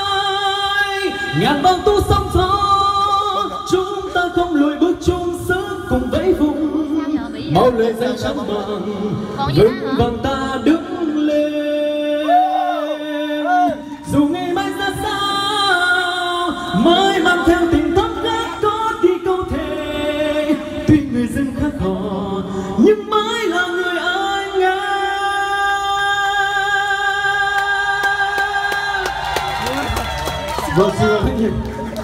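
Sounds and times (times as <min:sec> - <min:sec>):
person singing pop ballad: 0:00.0 - 0:30.0.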